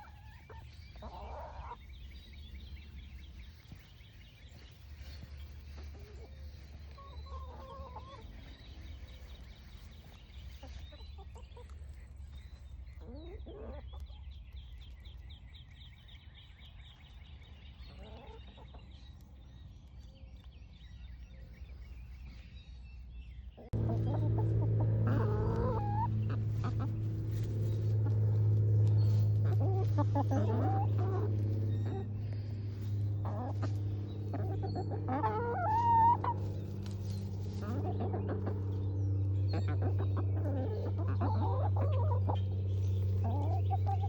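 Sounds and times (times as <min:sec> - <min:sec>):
hens clucking: 0:00.0 - 0:14.3, 0:17.8 - 0:19.0, 0:23.6 - 0:44.0
low hum: 0:00.0 - 0:17.8, 0:18.9 - 0:44.0.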